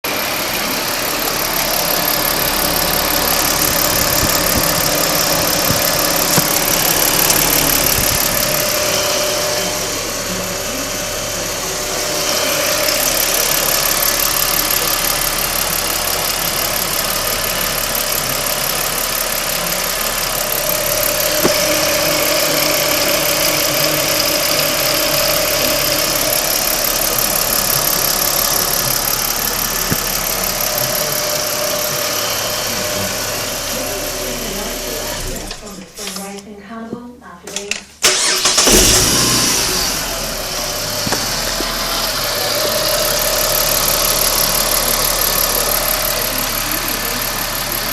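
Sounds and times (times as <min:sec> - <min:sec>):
car engine idling: 0:00.0 - 0:36.2, 0:38.0 - 0:47.9
engine ticking: 0:00.0 - 0:36.3, 0:38.0 - 0:47.9.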